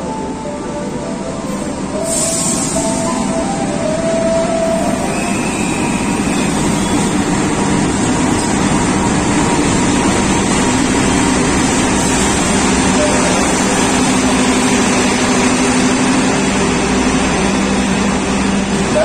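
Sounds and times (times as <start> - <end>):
diesel locomotive engine drone: 0.0 - 19.0
train wheels on rails: 1.5 - 19.0.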